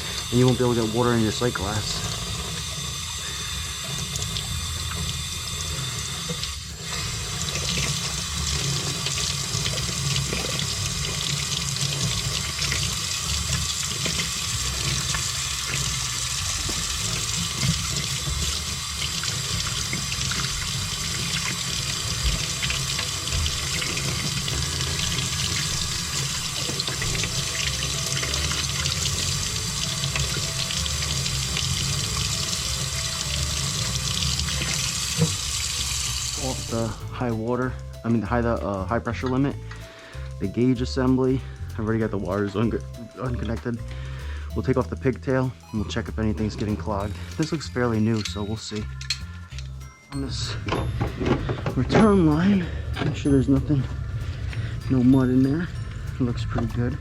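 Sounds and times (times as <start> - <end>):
tap water running: 0.0 - 57.0.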